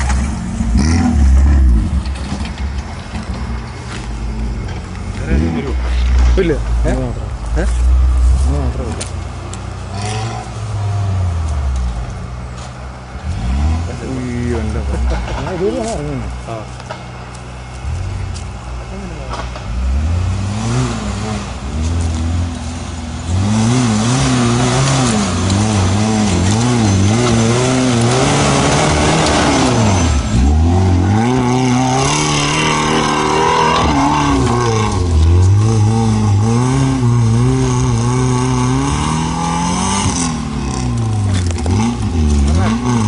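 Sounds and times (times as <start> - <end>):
off-road vehicle engine revving: 0.0 - 43.0.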